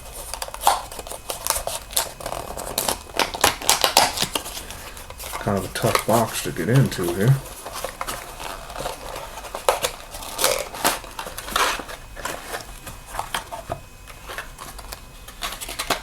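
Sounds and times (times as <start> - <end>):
cardboard box scraping and tearing: 0.6 - 13.8.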